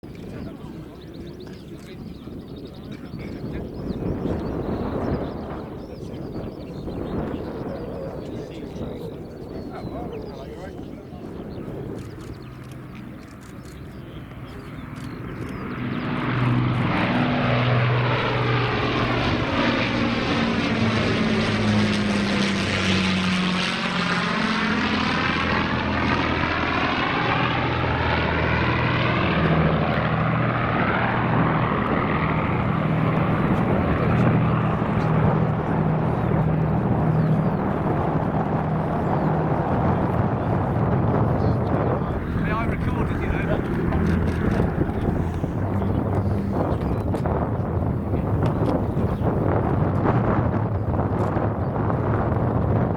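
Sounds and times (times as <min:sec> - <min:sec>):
propeller aircraft engines droning: 0:00.0 - 0:52.9.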